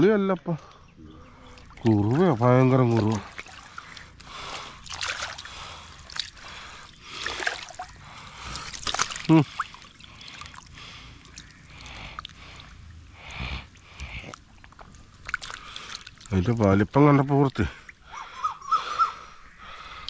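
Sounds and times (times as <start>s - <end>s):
water splashing and trickling: 0.0s - 18.4s.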